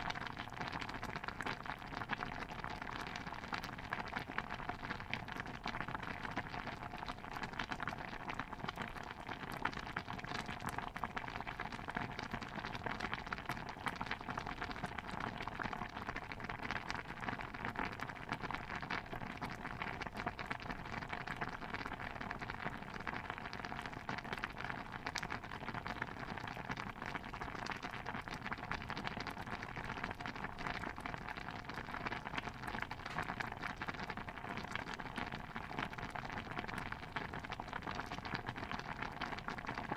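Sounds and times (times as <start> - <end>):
stew bubbling: 0.0 - 39.9.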